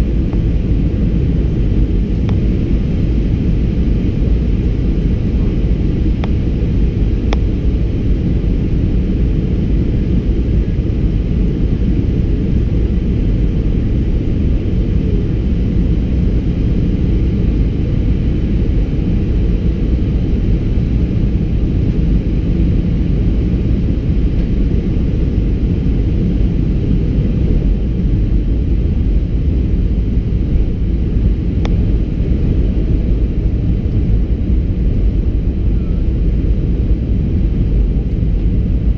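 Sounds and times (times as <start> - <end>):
airplane cabin engine and airflow roar: 0.0 - 38.9.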